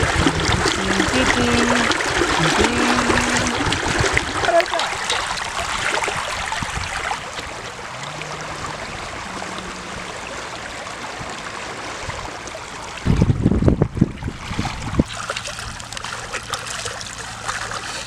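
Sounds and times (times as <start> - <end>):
river water running: 0.0 - 13.1, 14.1 - 18.0.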